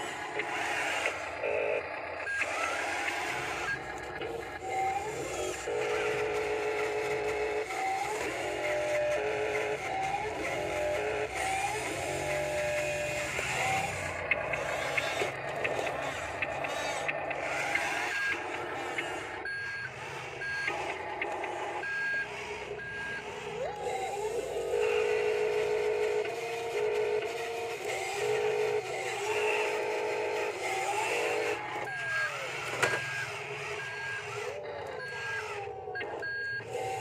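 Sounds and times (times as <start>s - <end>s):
simulated engine drone: 0.0s - 37.0s.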